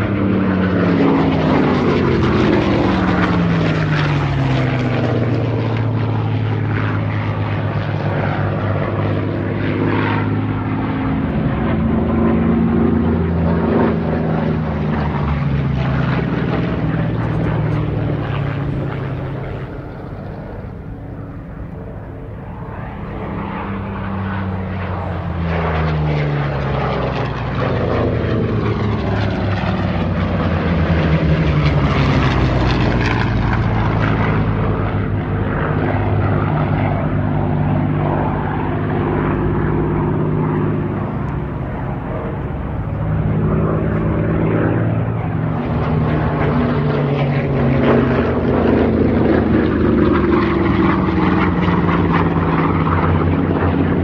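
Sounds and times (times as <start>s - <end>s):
propeller aircraft flying by: 0.0s - 54.0s.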